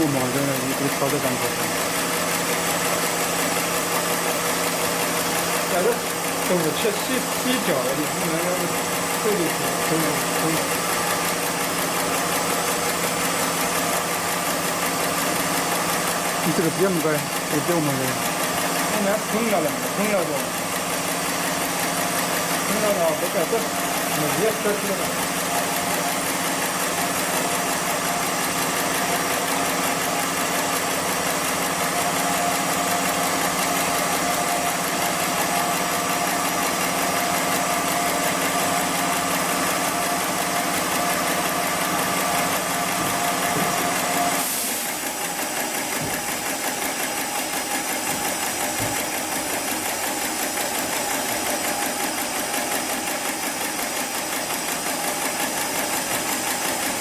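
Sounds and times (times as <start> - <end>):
sewing machine humming: 0.0 - 57.0.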